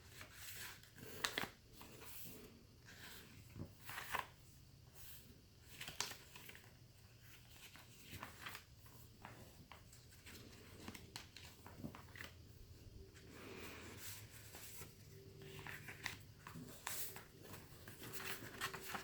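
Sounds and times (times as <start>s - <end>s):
paper pages rustling: 0.1s - 4.4s, 5.6s - 19.0s.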